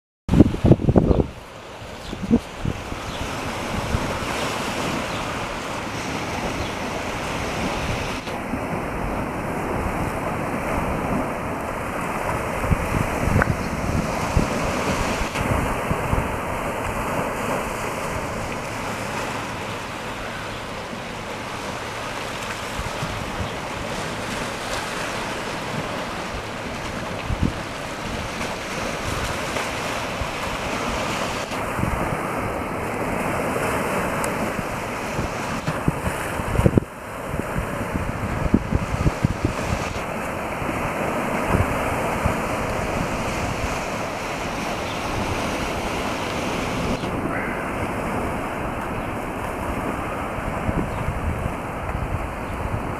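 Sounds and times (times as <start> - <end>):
sea washing over rocks: 0.3 - 52.9
wind buffeting microphone: 0.3 - 52.9.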